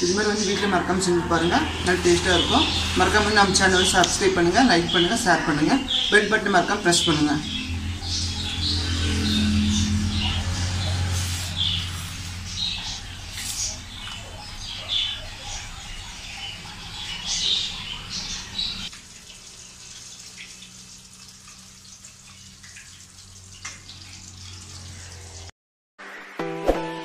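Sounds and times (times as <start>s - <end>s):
small birds chirping: 0.0s - 25.5s.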